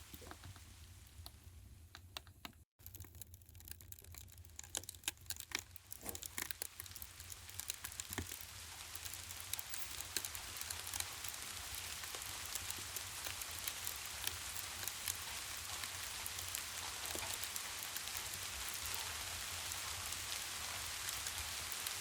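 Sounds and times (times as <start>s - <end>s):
rain pattering: 0.0s - 1.4s, 2.8s - 22.0s
fireplace crackling: 2.8s - 22.0s.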